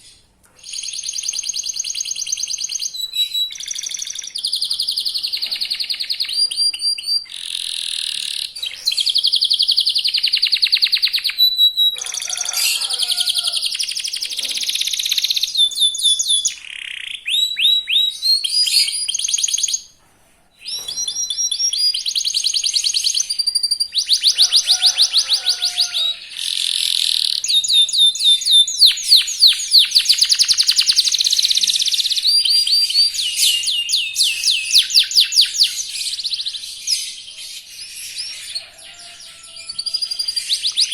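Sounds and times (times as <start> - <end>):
canary singing trills: 0.0 - 20.0, 20.6 - 40.9.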